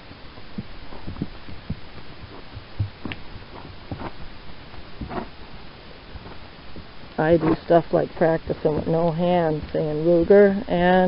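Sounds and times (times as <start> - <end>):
horse hooves on dirt: 0.3 - 11.0.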